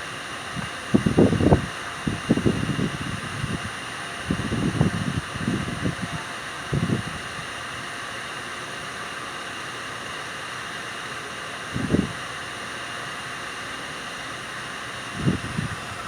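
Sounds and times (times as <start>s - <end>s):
booster pump running: 0.0s - 16.0s.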